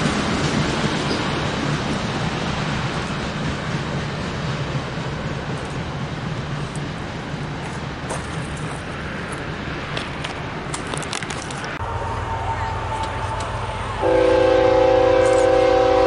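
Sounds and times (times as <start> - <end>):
freight train wheels rumbling on track: 0.0 - 16.0.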